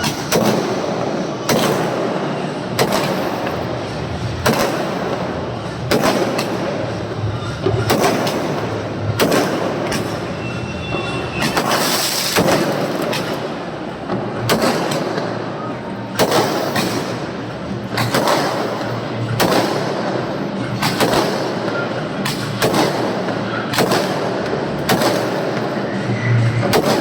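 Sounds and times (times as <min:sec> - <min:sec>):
firework bangs: 0:00.0 - 0:27.0
rushing crackling fireworks: 0:00.0 - 0:27.0.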